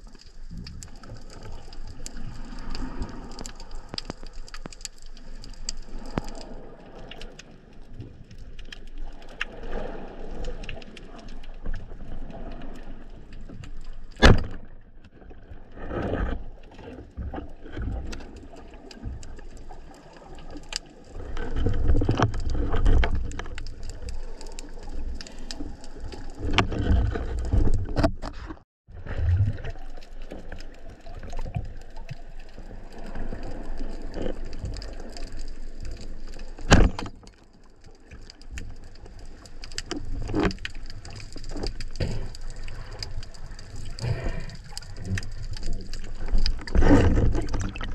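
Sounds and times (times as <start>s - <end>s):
low water rumbling: 0.0s - 47.9s
small clicks underwater: 0.0s - 47.9s
underwater water noise: 0.0s - 47.9s.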